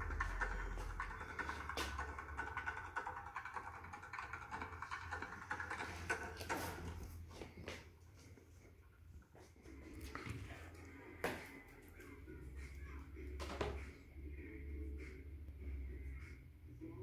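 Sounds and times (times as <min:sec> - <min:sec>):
tv broadcast from speakers: 0:00.0 - 0:17.0.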